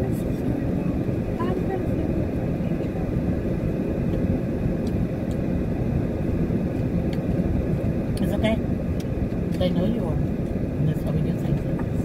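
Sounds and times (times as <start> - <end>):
car engine running inside cabin: 0.0 - 12.0.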